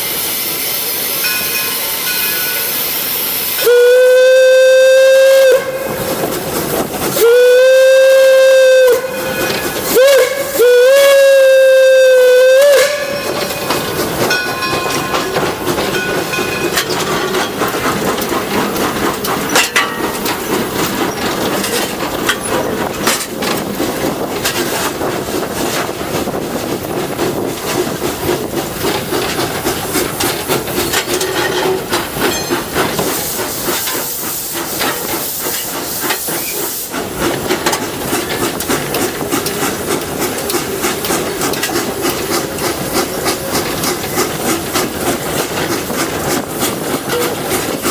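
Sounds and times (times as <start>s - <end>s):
steam hiss: 0.0s - 47.9s
steam locomotive running: 0.0s - 47.9s
wheels clicking over rail joints: 7.9s - 47.9s.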